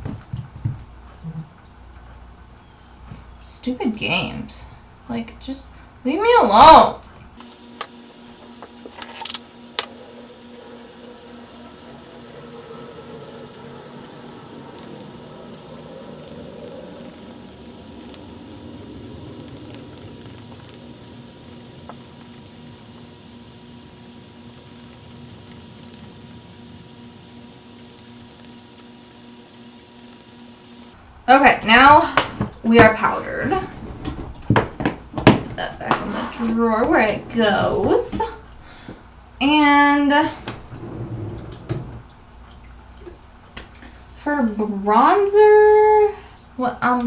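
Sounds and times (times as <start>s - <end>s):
aquarium filter humming: 0.0s - 47.0s
faint water trickle: 0.0s - 47.0s.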